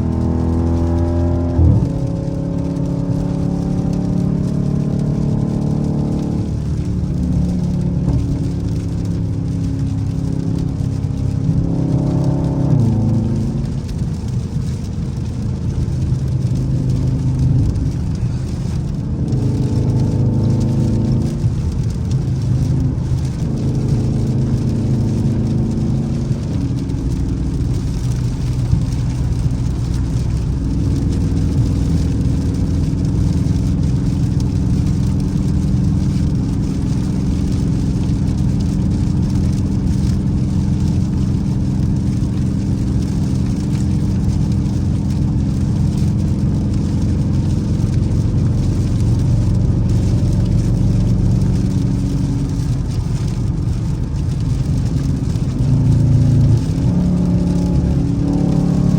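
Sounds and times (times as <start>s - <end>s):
car engine: 0.0s - 58.9s
road noise: 0.0s - 58.9s.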